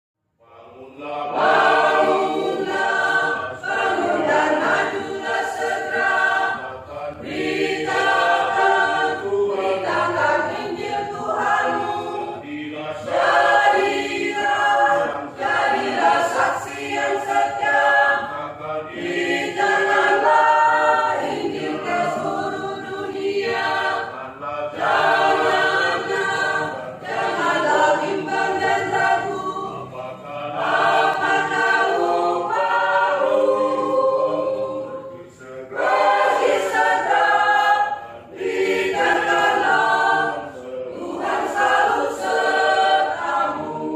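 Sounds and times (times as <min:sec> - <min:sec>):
church choir singing: 0:00.4 - 0:43.9.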